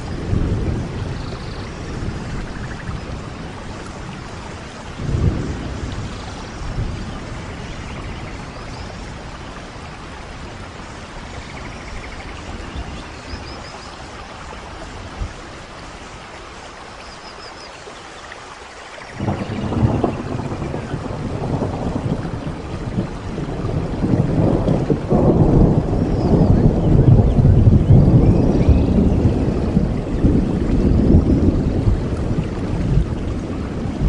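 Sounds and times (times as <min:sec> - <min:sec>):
thunder rumbles: 0:00.0 - 0:16.0, 0:19.1 - 0:34.0
steady rain: 0:00.0 - 0:34.0.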